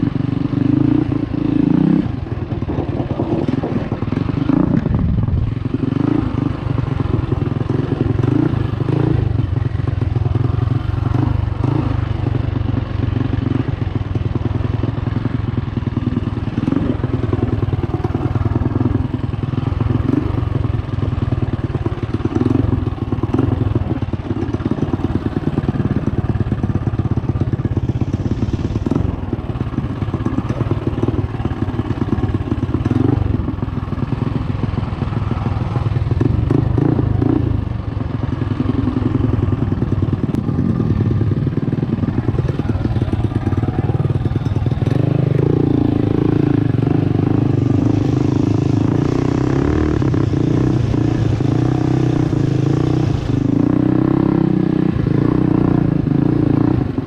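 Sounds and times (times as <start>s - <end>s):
mini bike engine running: 0.0s - 57.0s.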